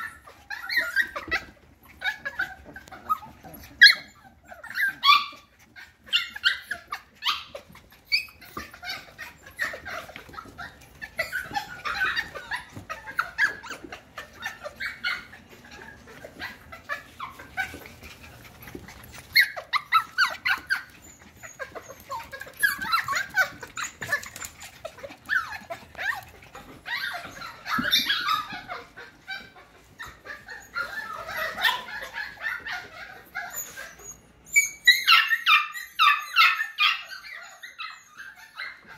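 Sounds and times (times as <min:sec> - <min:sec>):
puppies making high play noises: 0:00.0 - 0:38.9.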